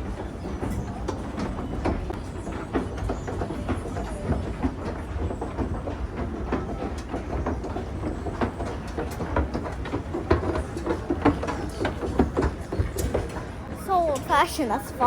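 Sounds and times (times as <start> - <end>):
clacks and knocks from treads: 0.0 - 15.0.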